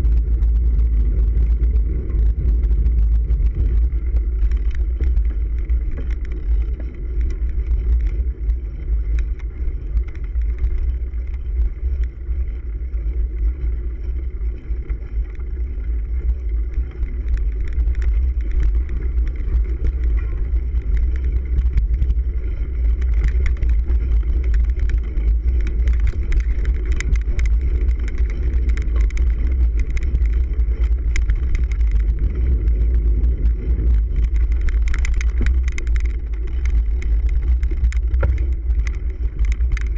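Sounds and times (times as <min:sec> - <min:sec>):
bike clicks and rattles: 0:00.0 - 0:39.9
low rumble of wind and vibration: 0:00.0 - 0:39.9.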